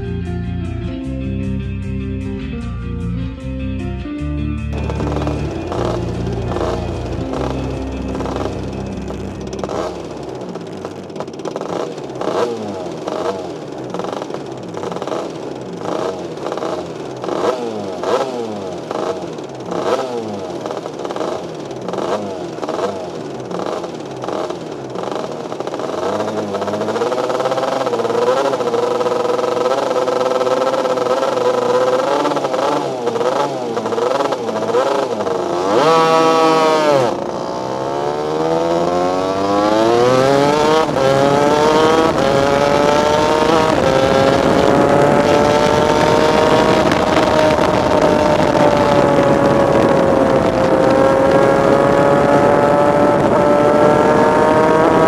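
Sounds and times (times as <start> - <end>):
kart engines revving: 4.7 - 55.0.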